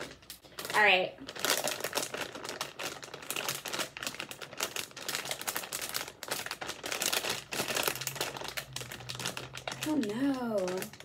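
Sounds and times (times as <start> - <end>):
plastic bag crackling: 0.0 - 11.0.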